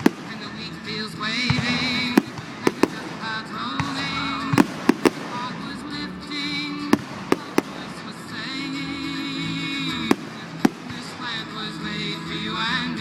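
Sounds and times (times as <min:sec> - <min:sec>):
fireworks bangs: 0:00.0 - 0:12.8
music with sustained notes: 0:00.0 - 0:13.0.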